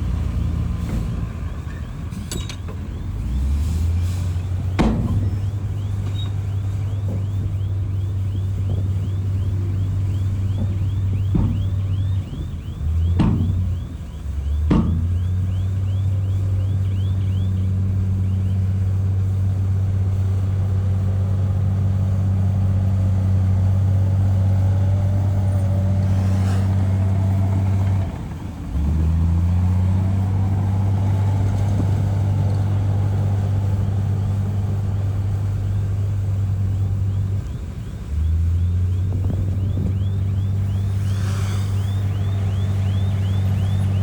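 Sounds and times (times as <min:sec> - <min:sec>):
heavy diesel machinery drone: 0:00.0 - 0:44.0.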